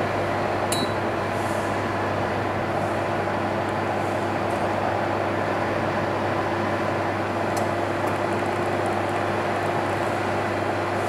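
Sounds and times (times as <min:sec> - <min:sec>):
heater blower air rush: 0:00.0 - 0:11.0.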